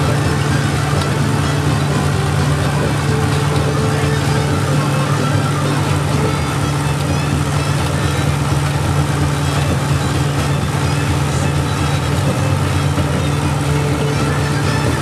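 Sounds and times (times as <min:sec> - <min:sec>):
threshing mill humming: 0:00.0 - 0:15.0.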